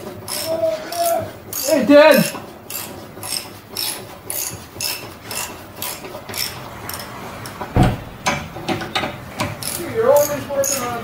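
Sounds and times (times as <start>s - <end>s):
hand ratchet clicking: 0.0s - 7.6s, 8.2s - 11.0s.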